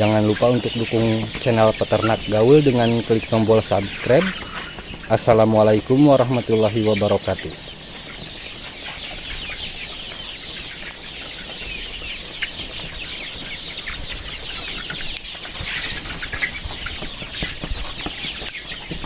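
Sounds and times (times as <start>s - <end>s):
roosters chirping and clucking: 0.0s - 19.0s.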